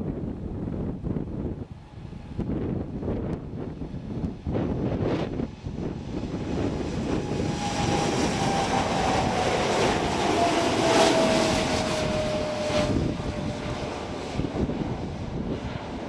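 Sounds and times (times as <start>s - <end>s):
jet airliner taking off: 0.1s - 16.0s.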